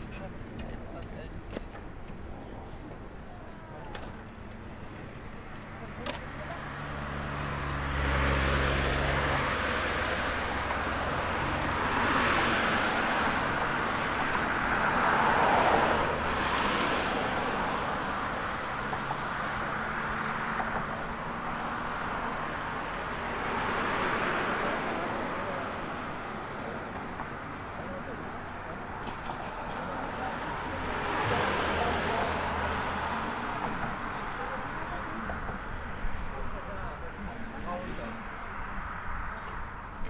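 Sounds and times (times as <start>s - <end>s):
road traffic passing: 0.0s - 40.0s.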